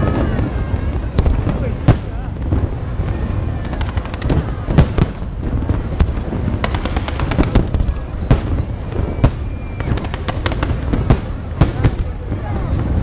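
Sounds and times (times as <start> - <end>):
fireworks bangs: 0.0 - 13.0
fireworks crackles: 0.0 - 13.0.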